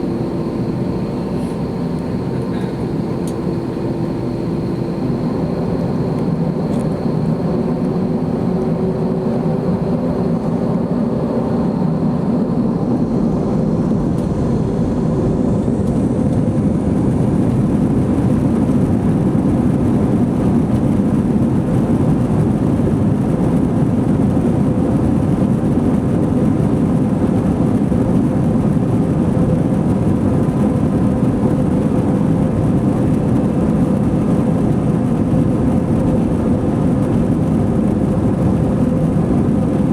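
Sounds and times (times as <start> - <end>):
airplane cabin engine noise: 0.0 - 39.9.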